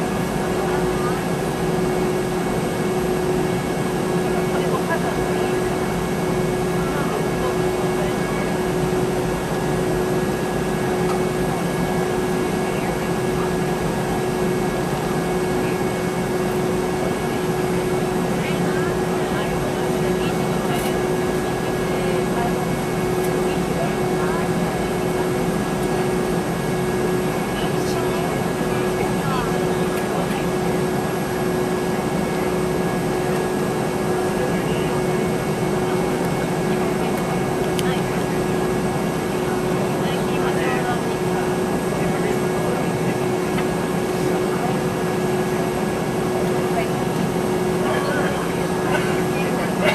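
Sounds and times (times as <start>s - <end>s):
jet engine drone in cabin: 0.0s - 49.9s.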